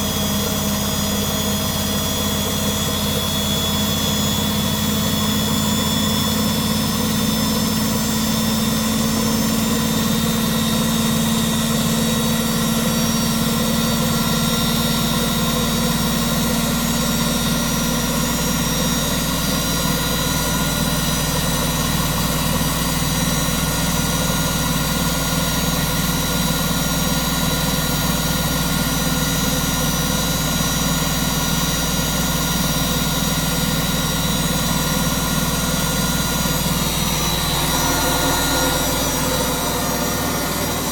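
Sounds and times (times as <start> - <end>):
washing machine running: 0.0 - 40.9.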